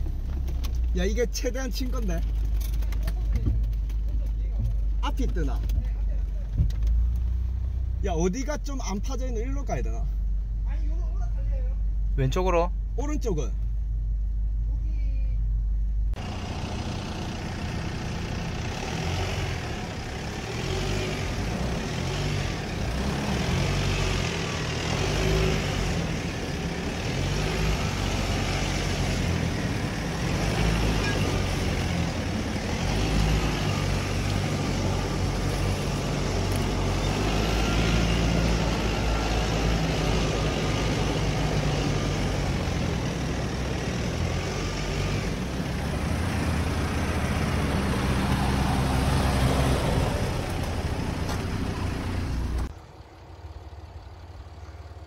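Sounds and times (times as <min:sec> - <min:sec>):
off-road engine rumble: 0:00.0 - 0:55.0.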